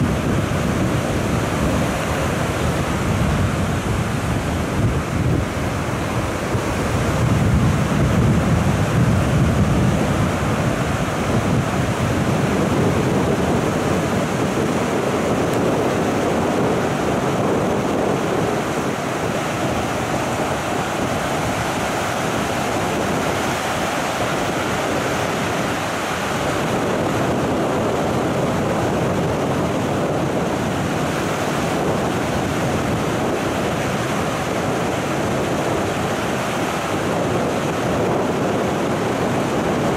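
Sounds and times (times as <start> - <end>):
rough surf breaking: 0.0 - 39.9
wind buffeting microphone: 0.0 - 39.9.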